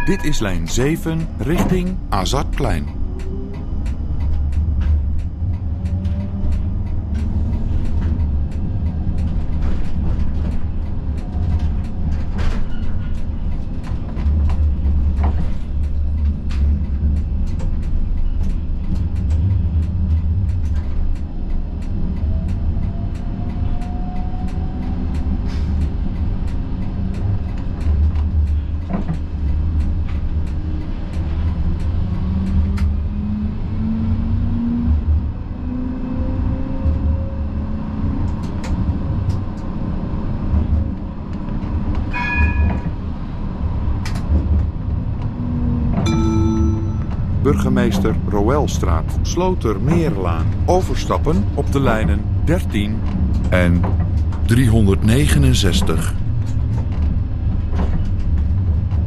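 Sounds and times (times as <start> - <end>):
wheels clicking on track: 0.0 - 35.8, 46.6 - 59.0
tram rumbling on rails: 0.0 - 59.0.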